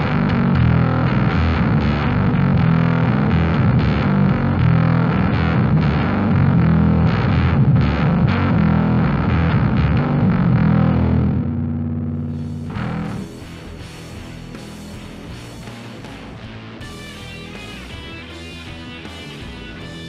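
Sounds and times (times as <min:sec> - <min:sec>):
distorted fuzz bass guitar: 0:00.0 - 0:20.0.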